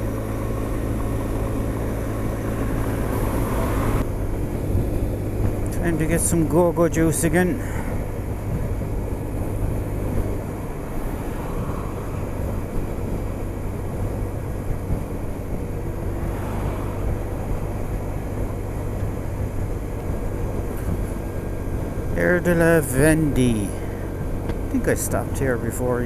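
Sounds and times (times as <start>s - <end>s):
wind noise: 0.0s - 22.5s
road noise: 0.0s - 26.0s
vehicle engine hum: 0.0s - 26.0s.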